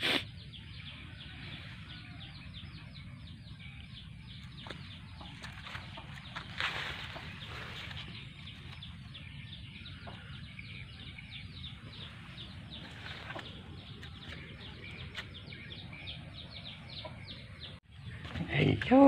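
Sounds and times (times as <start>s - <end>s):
low outdoor rumble: 0.4s - 19.0s.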